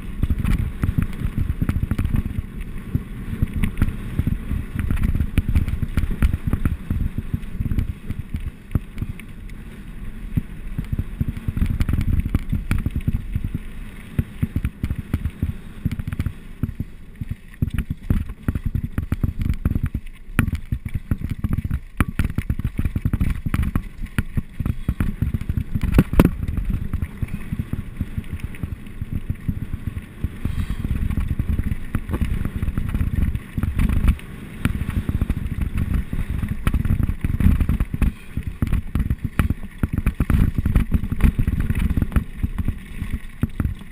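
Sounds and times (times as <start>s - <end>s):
bike rattling and knocking: 0.0s - 43.9s
wind buffeting microphone: 0.0s - 43.9s.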